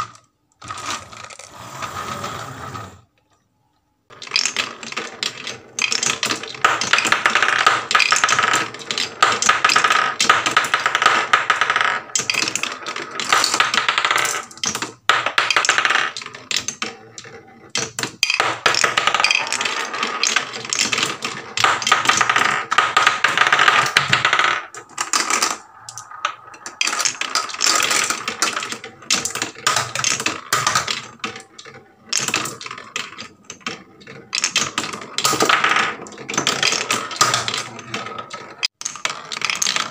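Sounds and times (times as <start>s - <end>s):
marbles clattering on wooden run: 0.0s - 2.2s, 4.1s - 39.9s.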